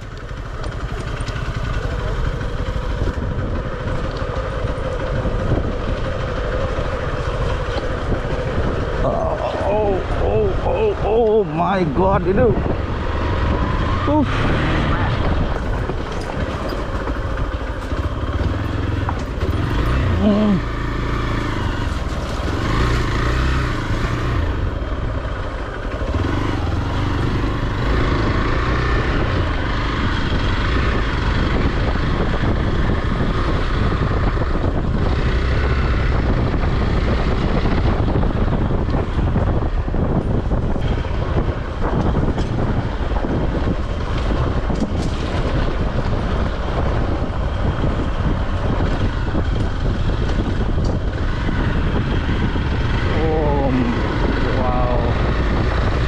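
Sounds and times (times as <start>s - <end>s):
motorcycle engine under load: 0.0s - 56.0s
steady rushing noise: 0.0s - 56.0s.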